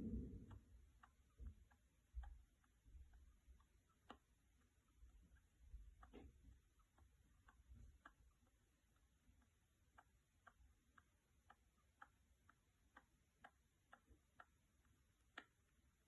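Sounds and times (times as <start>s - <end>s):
rat clicking: 0.0s - 16.0s.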